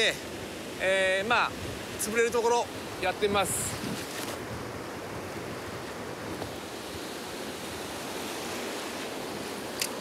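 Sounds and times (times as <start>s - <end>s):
strong wind: 0.0s - 9.9s
waves breaking on beach: 0.0s - 10.0s.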